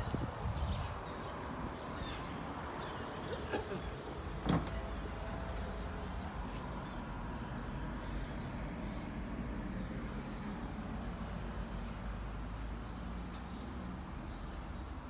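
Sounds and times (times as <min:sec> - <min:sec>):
bus diesel engine idling: 0:01.3 - 0:14.9.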